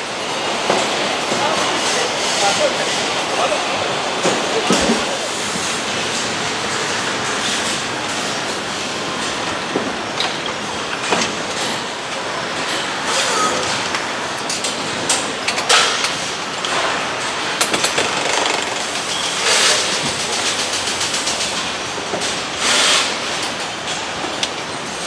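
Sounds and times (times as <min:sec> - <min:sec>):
clattering line machinery: 0:00.0 - 0:25.0.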